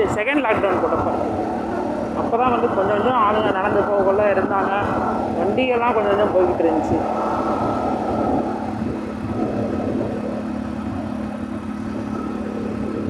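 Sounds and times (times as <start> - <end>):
motorcycle engine hum: 0.0 - 13.0
wind and road rumble: 0.0 - 13.0.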